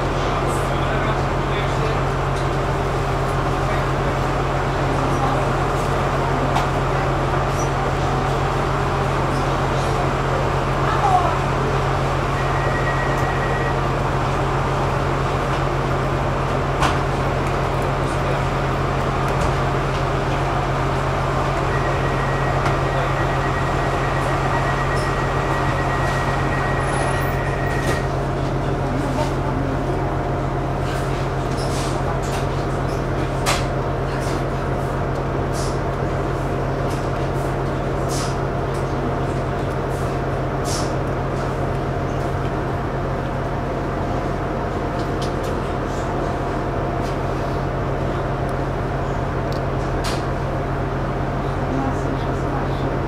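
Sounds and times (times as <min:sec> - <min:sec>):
train equipment humming: 0:00.0 - 0:53.0.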